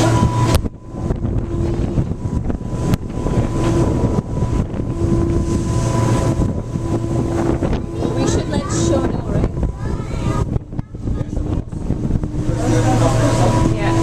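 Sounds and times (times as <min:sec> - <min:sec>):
ferry engines droning: 0:00.0 - 0:14.0
wind buffeting microphone: 0:00.0 - 0:14.0.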